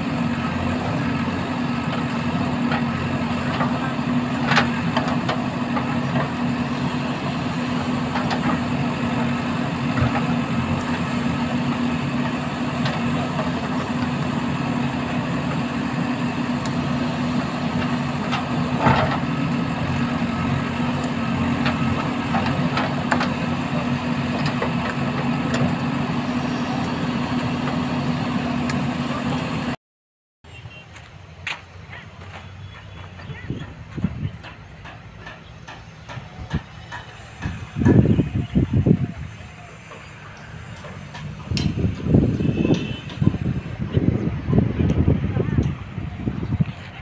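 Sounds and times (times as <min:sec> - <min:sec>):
diesel engine running: 0:00.0 - 0:29.8, 0:30.6 - 0:47.0.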